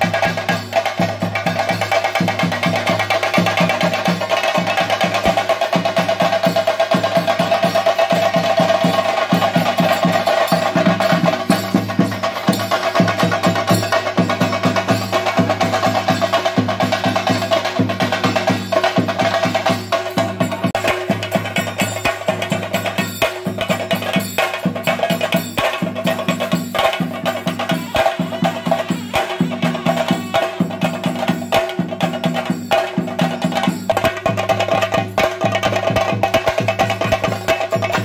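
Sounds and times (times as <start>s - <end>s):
drums beaten fast with sticks: 0.0s - 38.0s.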